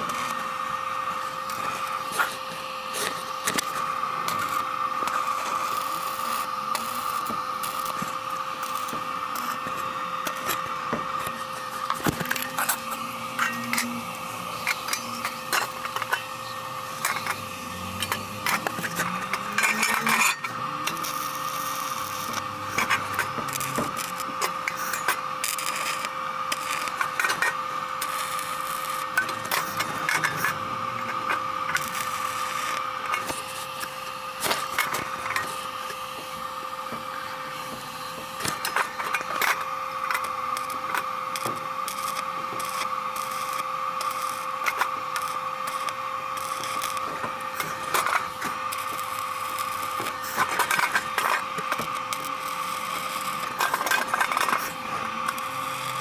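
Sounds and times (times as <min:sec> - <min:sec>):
welder hum: 0:00.0 - 0:56.0
welding arc crackling: 0:00.0 - 0:56.0.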